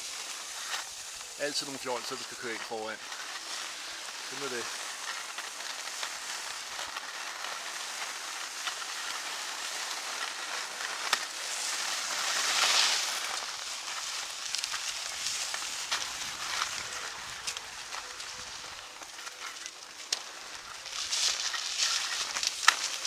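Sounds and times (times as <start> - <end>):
skis scraping over snow: 0.0 - 23.0.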